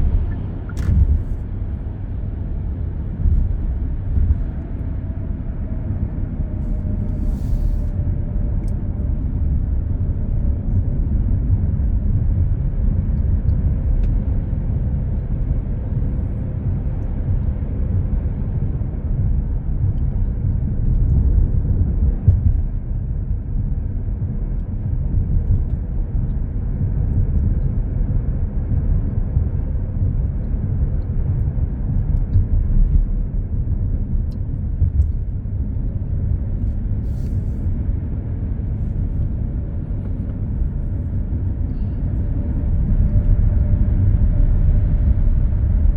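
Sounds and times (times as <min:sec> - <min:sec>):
car road rumble from inside: 0:00.0 - 0:45.9.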